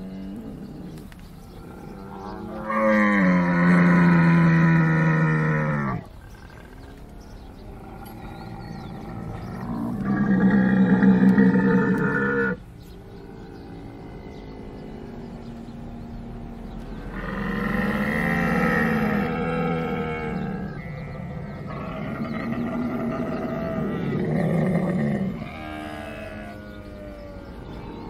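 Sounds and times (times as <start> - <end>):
camel bellowing: 0.0 - 28.0.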